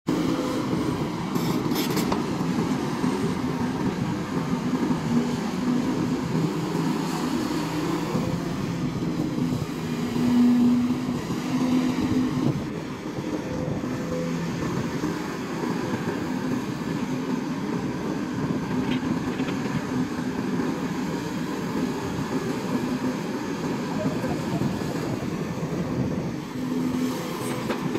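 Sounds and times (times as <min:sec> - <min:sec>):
excavator diesel engine running: 0:00.1 - 0:27.9.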